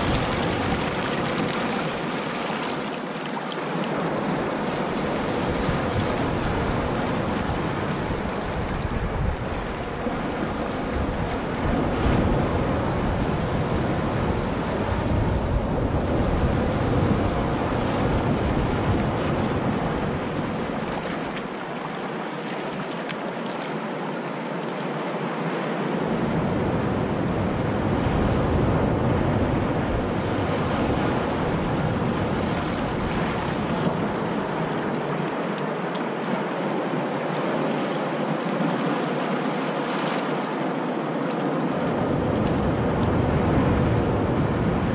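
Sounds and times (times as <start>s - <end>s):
wind rumbling on microphone: 0.0s - 3.1s, 3.8s - 21.9s, 25.8s - 44.9s
sea surf washing over sand: 0.0s - 44.9s.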